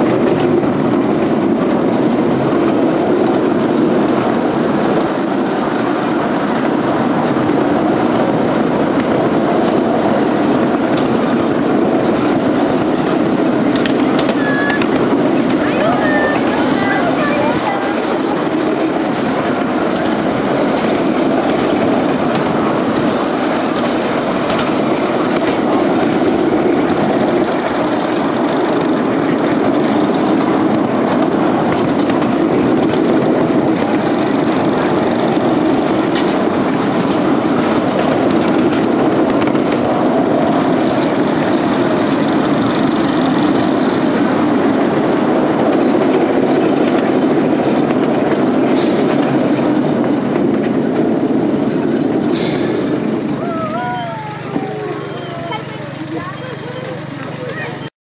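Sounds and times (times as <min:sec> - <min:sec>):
light track clicks: 0:00.0 - 0:53.4, 0:55.0 - 0:57.9
train wheels rumbling on track: 0:00.0 - 0:57.9.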